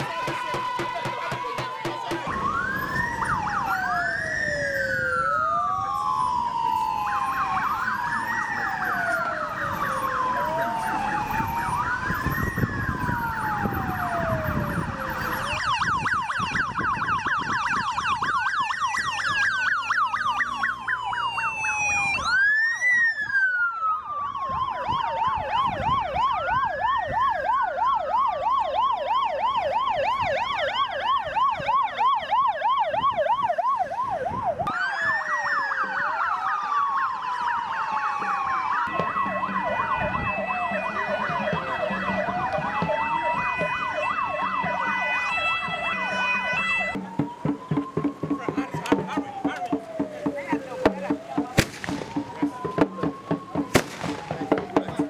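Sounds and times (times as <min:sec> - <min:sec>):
siren fast yelp: 0:00.0 - 0:55.0
sirens wailing: 0:00.0 - 0:55.0.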